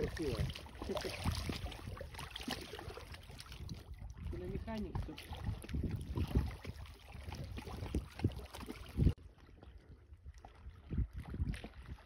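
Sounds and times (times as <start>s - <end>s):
river waves lapping: 0.0s - 12.0s
wind rumble on microphone: 0.0s - 12.0s.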